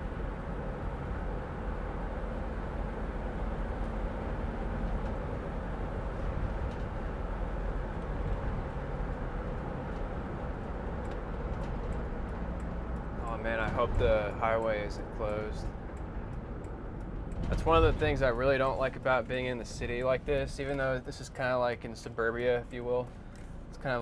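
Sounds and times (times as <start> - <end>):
van road and engine noise: 0.0 - 24.0.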